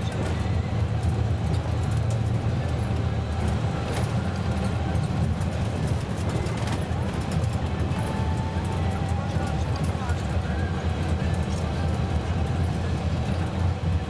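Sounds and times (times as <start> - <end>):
bus engine drone: 0.0 - 14.0
tyre and road noise: 0.0 - 14.0.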